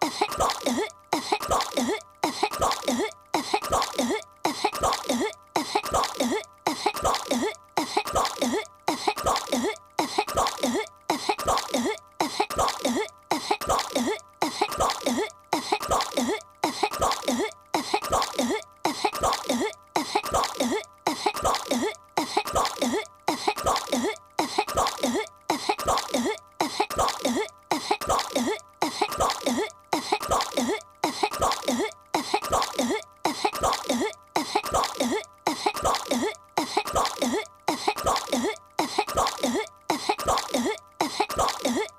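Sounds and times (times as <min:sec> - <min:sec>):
cartoon girl coughing: 0:00.0 - 0:41.9.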